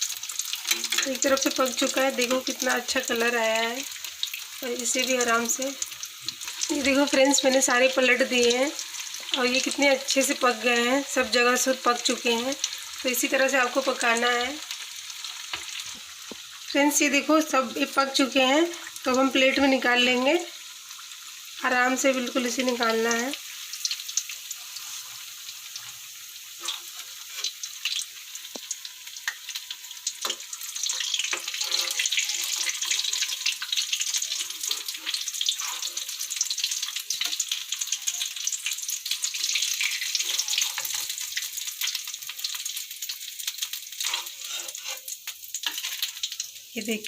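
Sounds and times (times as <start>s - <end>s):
deep-frying sizzle and crackle: 0.0s - 47.0s.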